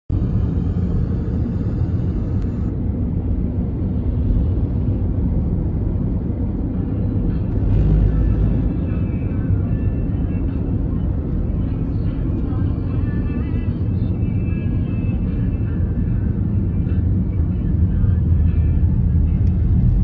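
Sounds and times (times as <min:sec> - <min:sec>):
car interior road rumble: 0:00.1 - 0:20.0.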